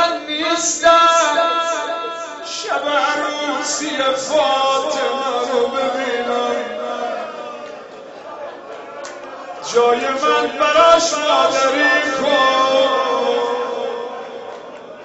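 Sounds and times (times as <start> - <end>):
man chanting a lament: 0.0 - 7.9, 9.6 - 15.0.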